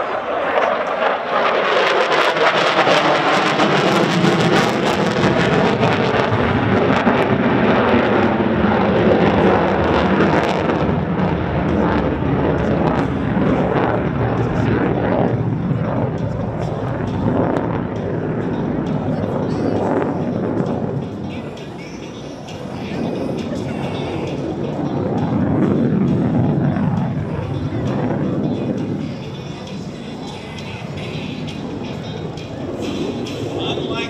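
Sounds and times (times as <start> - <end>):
jet roar crackling: 0.0 - 34.0.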